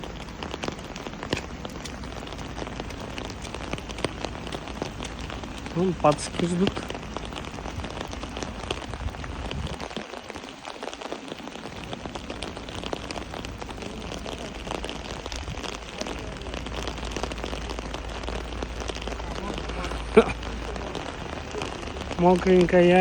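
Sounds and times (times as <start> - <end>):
heavy rain pattering: 0.0 - 23.0.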